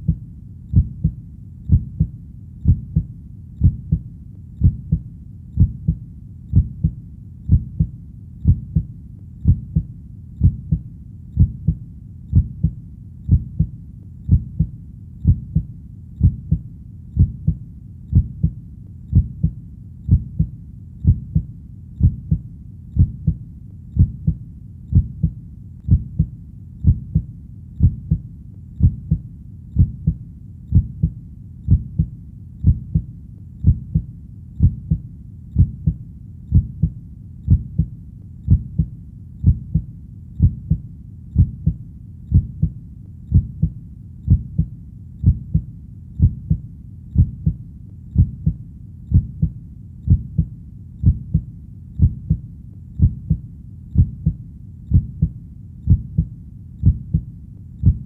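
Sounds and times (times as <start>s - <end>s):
faint low hum: 0.0s - 58.0s
heartbeat thumps: 0.0s - 58.0s.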